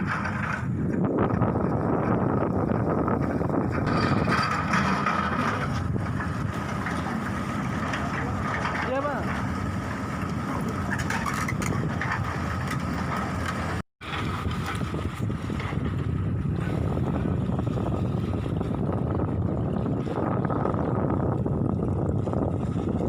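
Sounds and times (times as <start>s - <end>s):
diesel engine running: 0.0s - 23.0s
wind on microphone: 0.0s - 23.0s.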